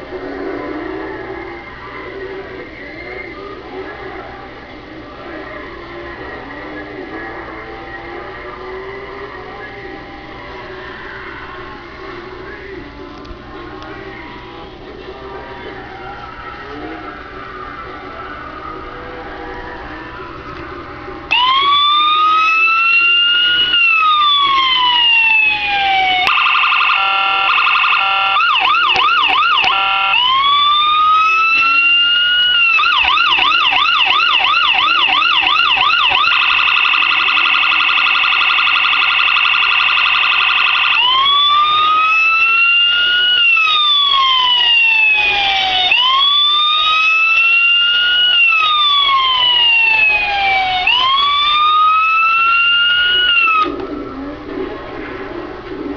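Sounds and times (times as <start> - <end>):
electronic police siren: 0.0 - 55.9.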